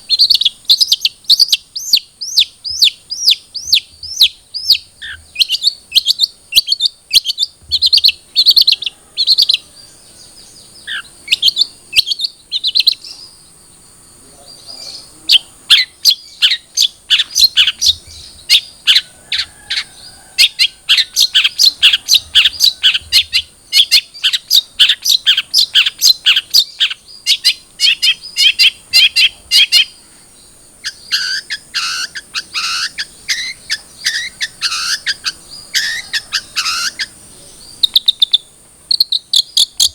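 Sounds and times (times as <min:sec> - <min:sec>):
bird singing sharp chirps: 0:00.0 - 0:39.9.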